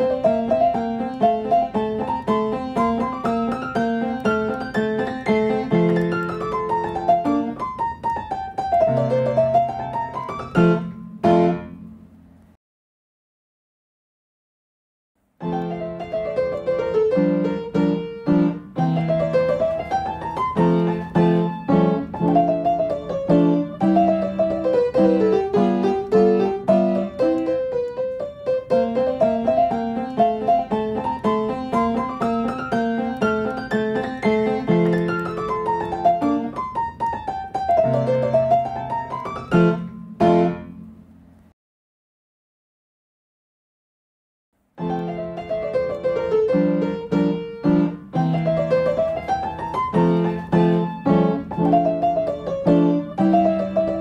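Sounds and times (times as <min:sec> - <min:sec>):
piano music: 0:00.0 - 0:12.2, 0:15.4 - 0:41.2, 0:44.8 - 0:54.0.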